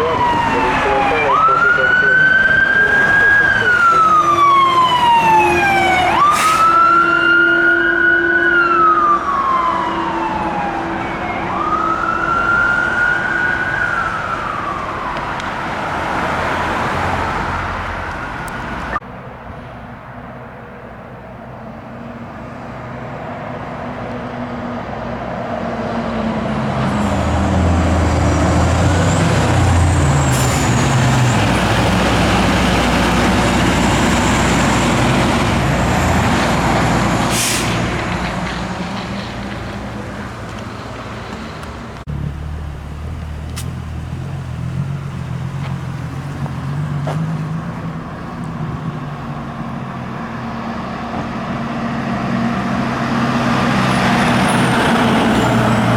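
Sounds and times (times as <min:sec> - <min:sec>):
fire truck siren wailing: 0:00.0 - 0:19.0, 0:25.8 - 0:42.1, 0:44.9 - 0:55.9
heavy truck engine rumbling: 0:00.0 - 0:55.9.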